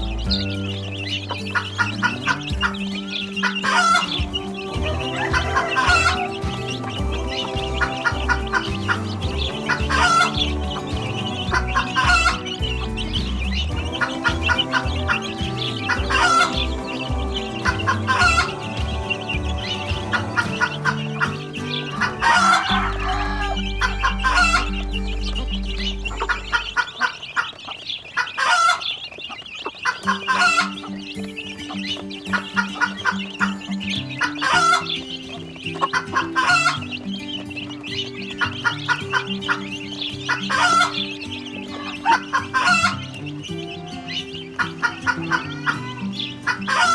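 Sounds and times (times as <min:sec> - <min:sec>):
music with held notes: 0:00.0 - 0:27.1, 0:30.0 - 0:46.9
chickens clucking: 0:00.0 - 0:46.9.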